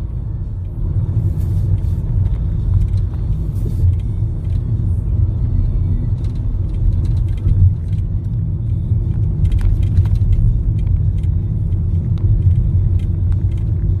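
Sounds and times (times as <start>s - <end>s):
car cabin road and engine rumble: 0.0s - 14.0s.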